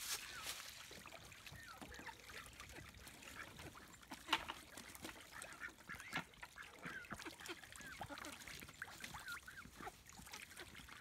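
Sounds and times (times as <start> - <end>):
ducks quacking: 1.5 - 11.0.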